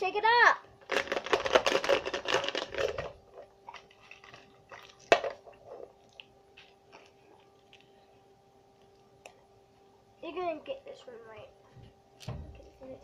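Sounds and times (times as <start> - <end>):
steady faint hum: 0.0 - 13.0.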